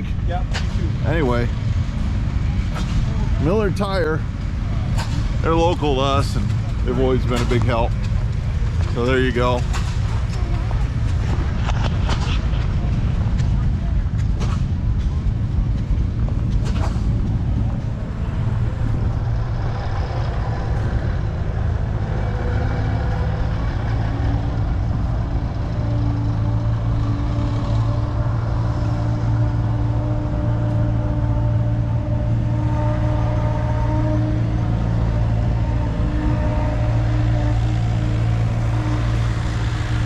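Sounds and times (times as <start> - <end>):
engine running with low hum: 0.0 - 40.0.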